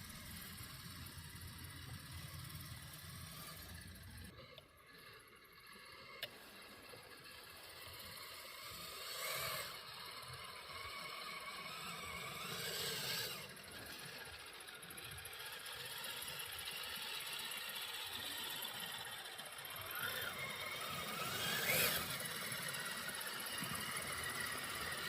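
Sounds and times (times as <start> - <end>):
toy snowcat motor and tracks: 0.0 - 25.0.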